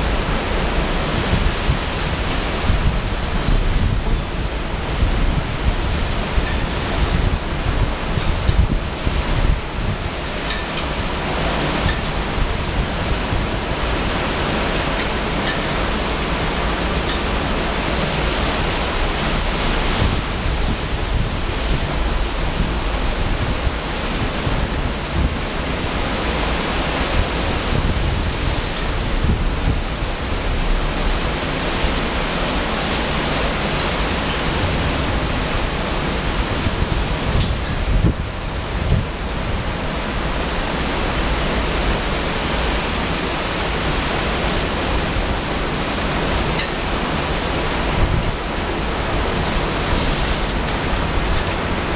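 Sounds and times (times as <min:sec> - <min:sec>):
wind buffeting microphone: 0:00.0 - 0:51.9
wind gusting through trees: 0:00.0 - 0:51.9.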